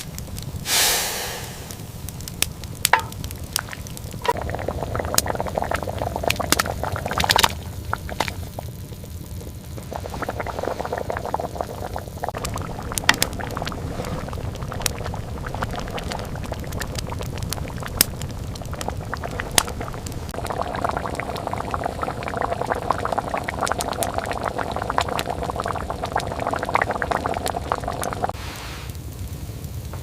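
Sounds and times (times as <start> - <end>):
liquid bubbling: 0.0 - 29.1.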